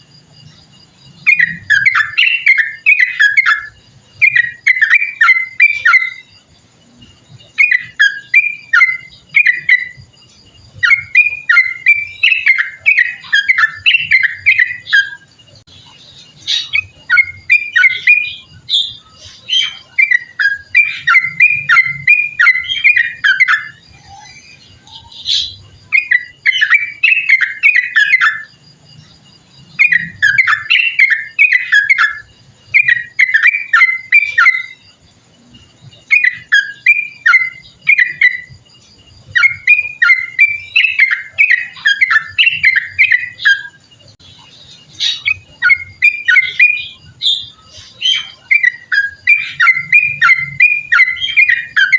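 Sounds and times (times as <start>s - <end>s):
bird singing bubbling whistles: 1.2s - 6.5s, 7.4s - 10.1s, 10.8s - 15.3s, 16.5s - 28.5s, 29.8s - 34.9s, 36.0s - 38.7s, 39.3s - 43.8s, 45.0s - 51.9s.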